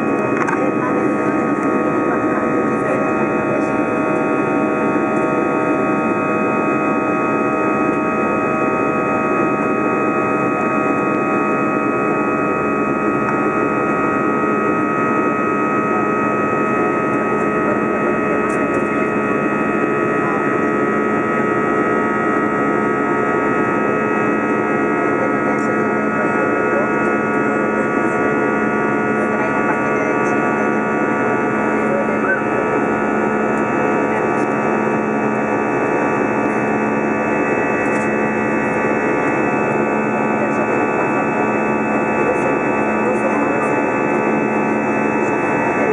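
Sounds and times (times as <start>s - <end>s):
constant whining tones: 0.0s - 45.9s
jet engine cabin drone: 0.0s - 45.9s.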